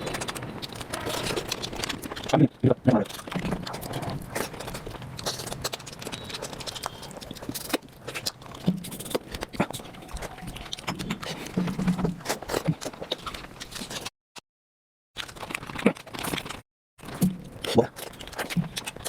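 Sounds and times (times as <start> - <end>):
wet chewing and smacking: 0.0 - 14.1, 15.2 - 19.0.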